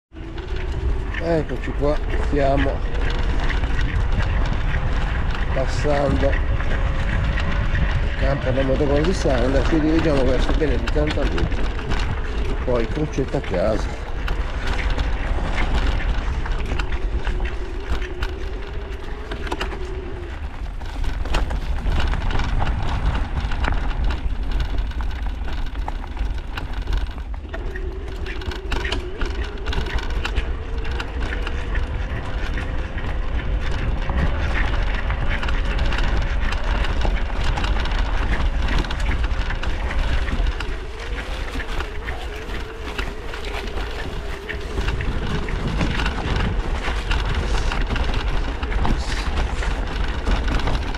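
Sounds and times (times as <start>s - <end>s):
road and wind noise: 0.1s - 50.9s
vehicle engine running: 0.1s - 50.9s.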